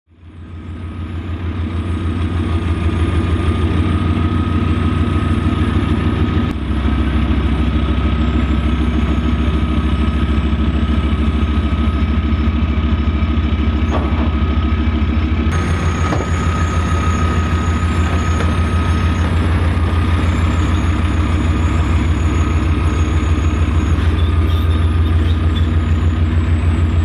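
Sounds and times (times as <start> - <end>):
tracked vehicle engine running: 0.1 - 27.0.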